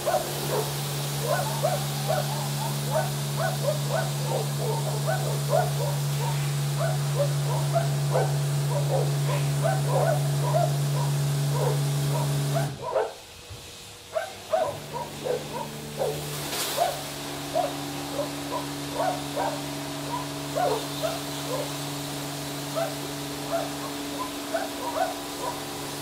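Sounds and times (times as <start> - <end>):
car wash humming: 0.0 - 26.0.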